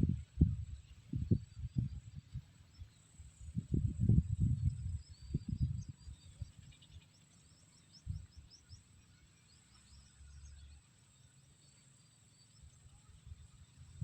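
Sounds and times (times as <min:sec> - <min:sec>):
faint high bird chirps: 0:00.0 - 0:14.0.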